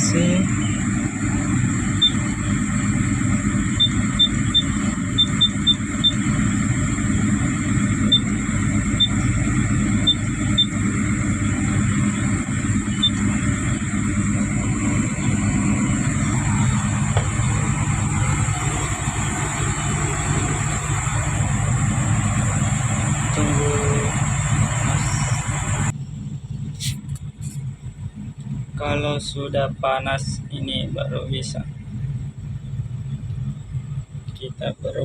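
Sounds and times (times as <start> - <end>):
excavator diesel engine idling: 0.0 - 35.0.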